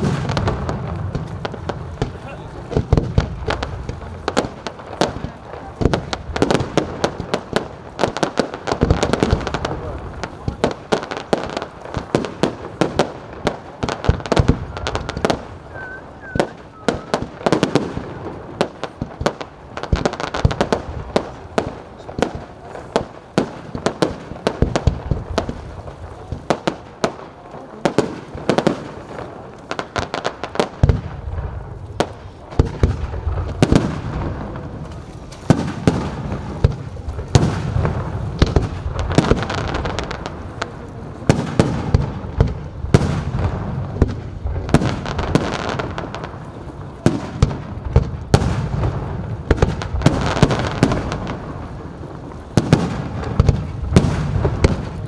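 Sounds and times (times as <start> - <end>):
deep fireworks booms: 0.0 - 55.0
fireworks bursting and crackling: 0.0 - 55.0.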